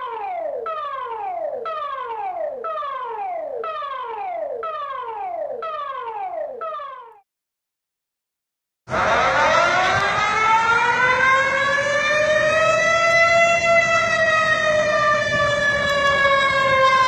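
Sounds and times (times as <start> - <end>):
falling siren-like alert tone: 0.0 - 7.2, 8.9 - 17.0.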